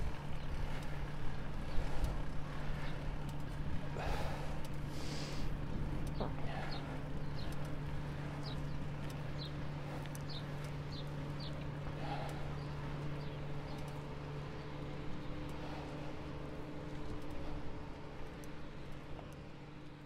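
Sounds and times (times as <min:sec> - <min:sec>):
low hum and rumble: 0:00.0 - 0:20.0.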